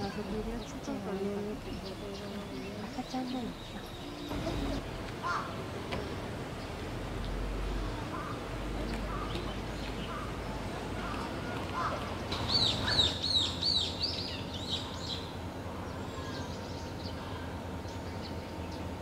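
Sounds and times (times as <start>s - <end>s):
songbird singing: 0.0s - 19.0s
steady background hum: 0.0s - 19.0s.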